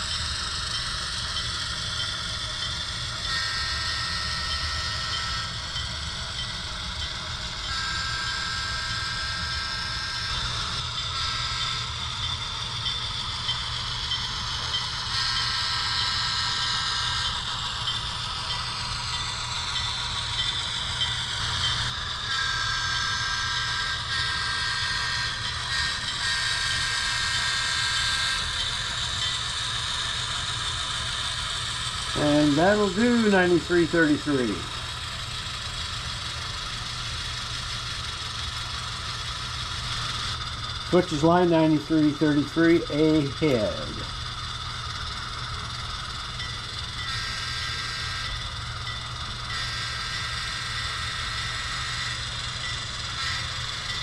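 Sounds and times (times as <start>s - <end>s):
model locomotive rumble: 0.0s - 54.0s
motor whine gliding in pitch: 0.0s - 54.0s.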